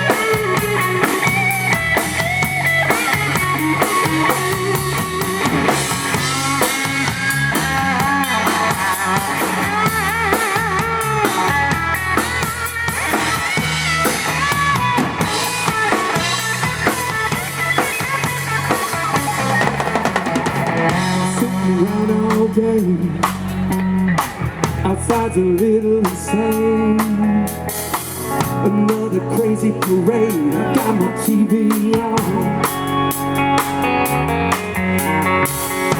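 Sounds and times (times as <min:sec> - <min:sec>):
drum kit keeping the beat: 0:00.0 - 0:35.9
lead guitar bent notes: 0:00.0 - 0:35.9
steady bass line: 0:00.0 - 0:35.9.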